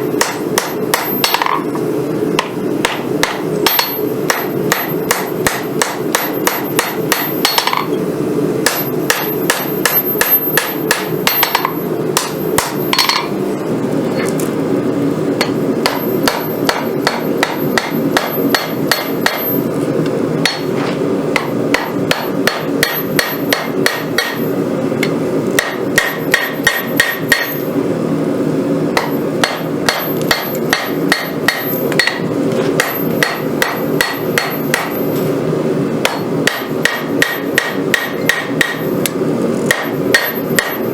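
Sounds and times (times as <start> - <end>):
hammer striking steel on anvil: 0.1 - 1.8, 2.4 - 8.0, 8.6 - 13.4, 15.4 - 19.7, 20.4 - 27.7, 29.0 - 35.2, 36.0 - 40.9.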